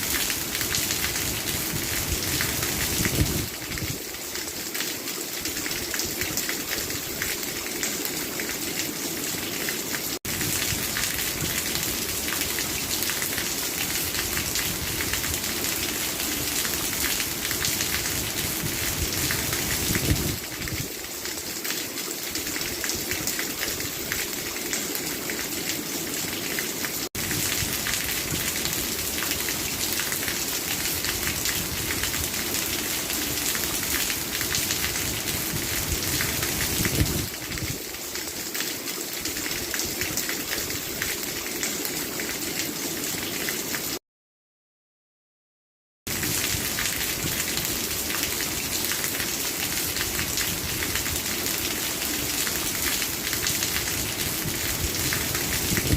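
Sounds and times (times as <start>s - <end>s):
steady rain falling: 0.0s - 44.0s, 46.1s - 55.9s.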